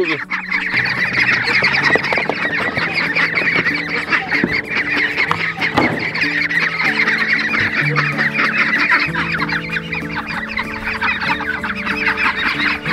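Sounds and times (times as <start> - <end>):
ducklings peeping: 0.0 - 12.9.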